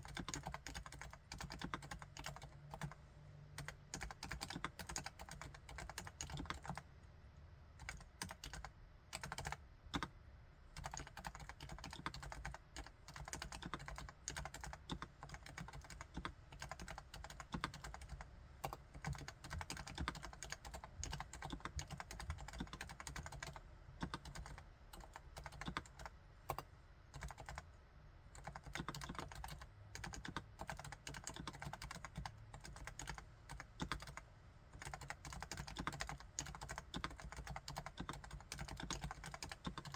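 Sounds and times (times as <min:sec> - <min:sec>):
fast keyboard typing: 0:00.0 - 0:03.0, 0:03.6 - 0:06.8, 0:07.8 - 0:10.1, 0:10.8 - 0:27.7, 0:28.4 - 0:34.2, 0:34.8 - 0:39.9.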